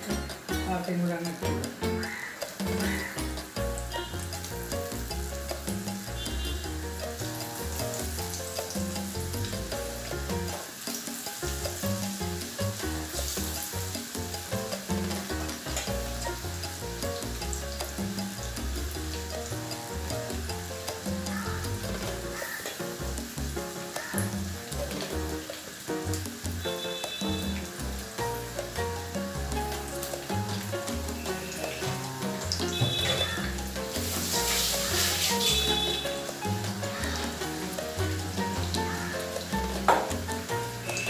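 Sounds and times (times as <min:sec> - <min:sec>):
background music: 0:00.0 - 0:41.0
food sizzling in hot oil: 0:00.0 - 0:41.0.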